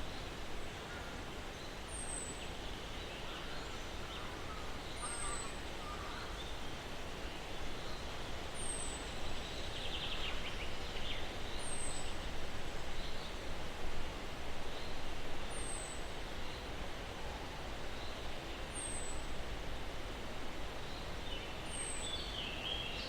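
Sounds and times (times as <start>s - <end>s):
wind through pine trees: 0.0s - 23.0s.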